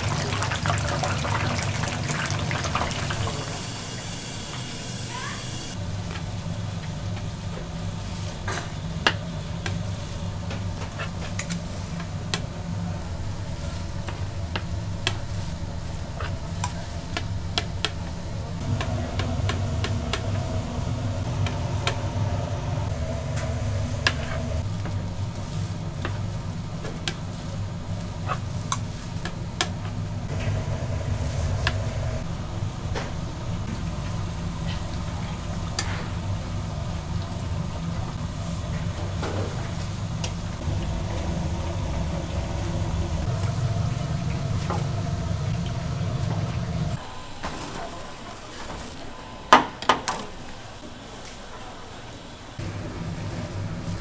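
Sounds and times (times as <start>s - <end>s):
kitchen machinery humming: 0.0s - 54.0s.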